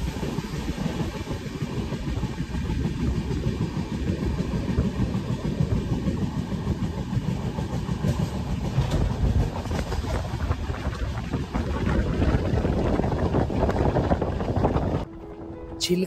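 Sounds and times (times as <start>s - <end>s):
wheels rumbling on rails: 0.0s - 15.9s.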